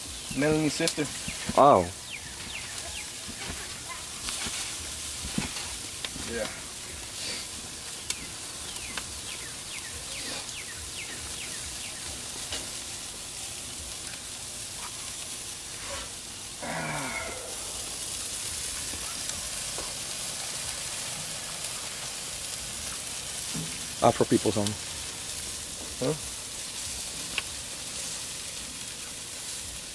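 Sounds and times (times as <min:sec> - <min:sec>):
meat sizzling over charcoal: 0:00.0 - 0:29.9.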